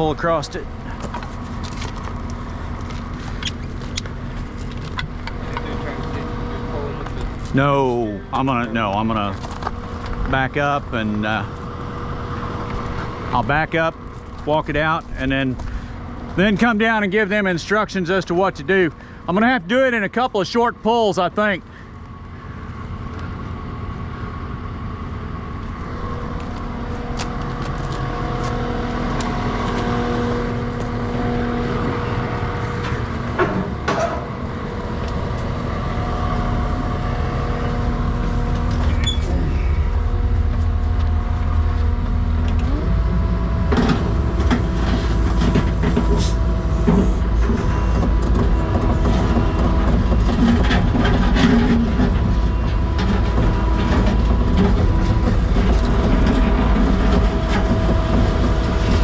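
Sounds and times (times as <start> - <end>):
skid steer engine whining: 0.0 - 59.0.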